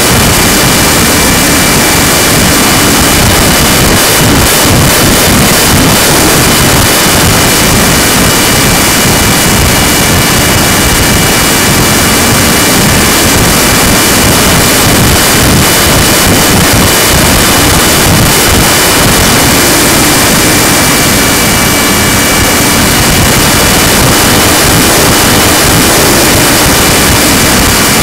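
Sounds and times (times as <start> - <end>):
wind rushing on microphone: 0.0 - 28.0.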